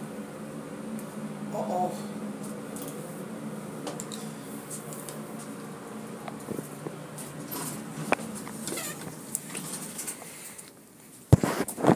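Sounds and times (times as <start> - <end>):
elevator humming: 0.0 - 11.1.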